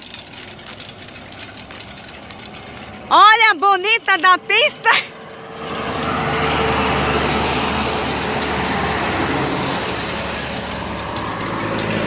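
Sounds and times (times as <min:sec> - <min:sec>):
low engine drone: 0:00.0 - 0:12.0
trucks passing road noise: 0:00.0 - 0:12.0.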